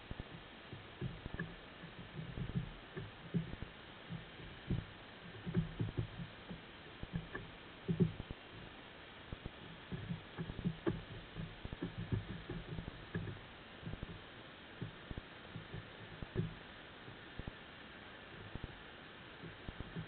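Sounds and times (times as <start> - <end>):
steady hiss: 0.0 - 20.0
soft underwater knocks and thuds: 0.1 - 17.6, 19.4 - 20.0.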